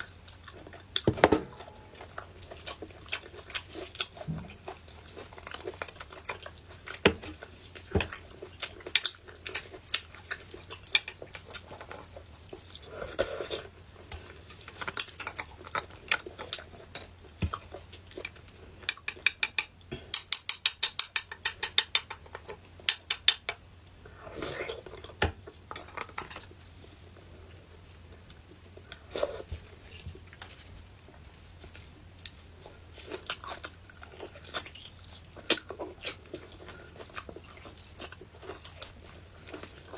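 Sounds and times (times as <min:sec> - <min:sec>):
eating sounds: 0:00.0 - 0:39.9.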